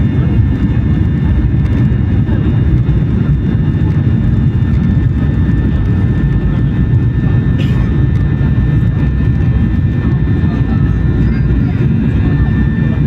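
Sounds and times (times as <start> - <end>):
airliner engines low rumble: 0.0 - 13.0.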